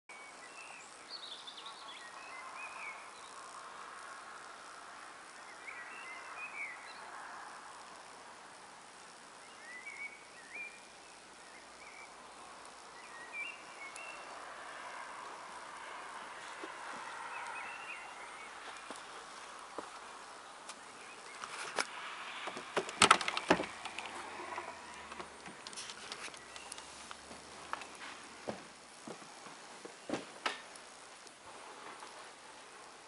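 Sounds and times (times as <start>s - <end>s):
faint steady hiss: 0.1s - 33.0s.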